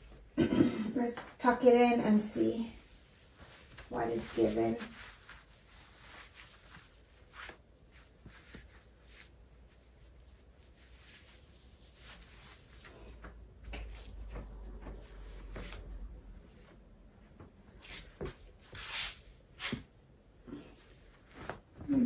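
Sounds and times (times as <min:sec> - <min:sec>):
clothing rustling and rubbing: 0:00.0 - 0:22.0.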